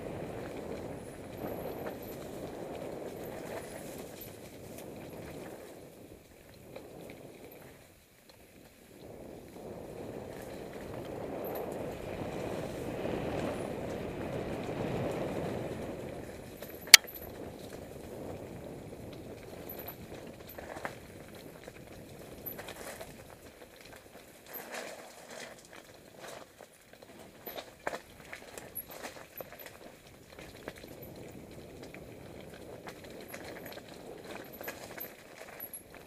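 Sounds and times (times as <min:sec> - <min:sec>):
bike tyres on trail: 0:00.0 - 0:36.0.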